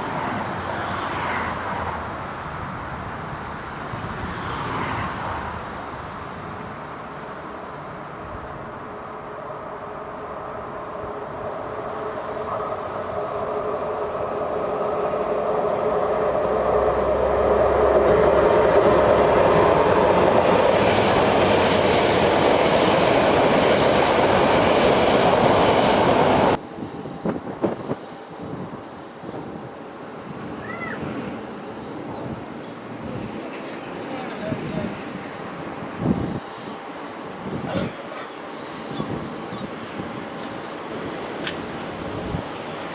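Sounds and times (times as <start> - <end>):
train passing on rails: 0.0 - 42.9.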